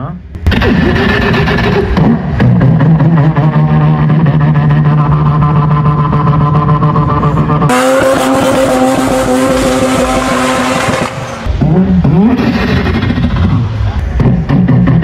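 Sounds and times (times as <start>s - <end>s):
man imitating engine with mouth: 0.5s - 15.0s.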